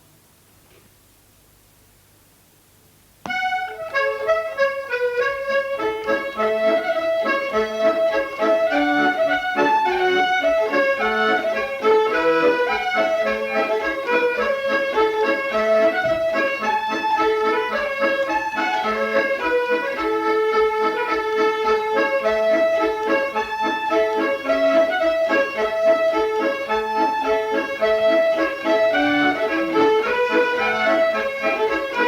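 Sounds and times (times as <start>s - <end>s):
accordion playing a tune: 3.3s - 32.0s.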